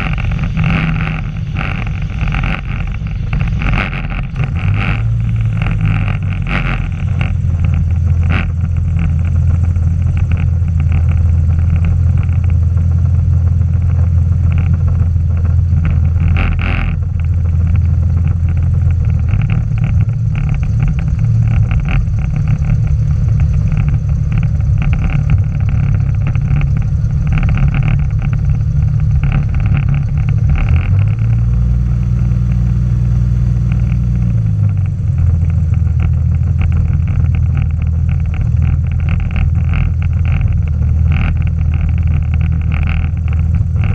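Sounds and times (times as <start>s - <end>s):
biplane engine running: 0.0s - 43.9s.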